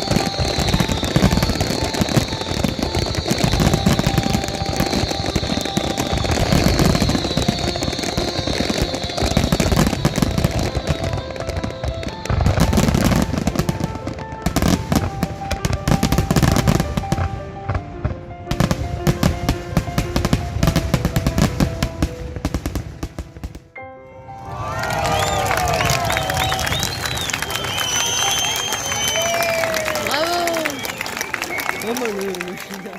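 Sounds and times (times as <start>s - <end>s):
fireworks crackling and banging: 0.0s - 23.8s, 24.8s - 32.9s
music playing: 0.0s - 32.9s.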